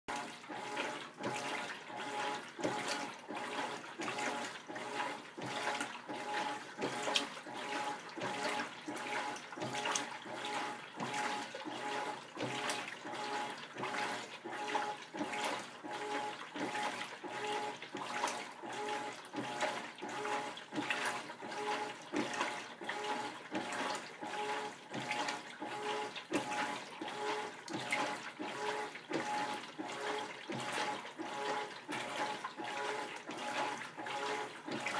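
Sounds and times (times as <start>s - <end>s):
washing machine hum: 0.0s - 34.9s
washing machine water sloshing: 0.1s - 34.9s.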